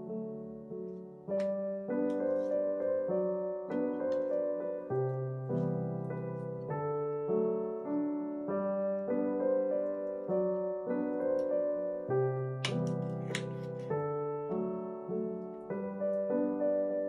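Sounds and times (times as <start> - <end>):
gentle solo piano music: 0.0 - 17.0.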